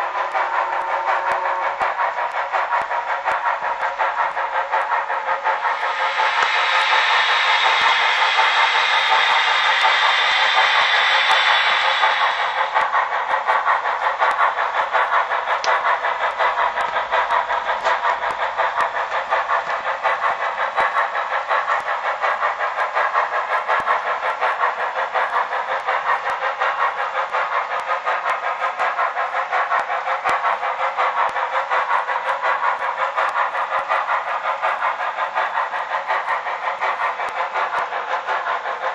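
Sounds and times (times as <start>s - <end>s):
thin steam locomotive chuffing: 0.0s - 38.9s.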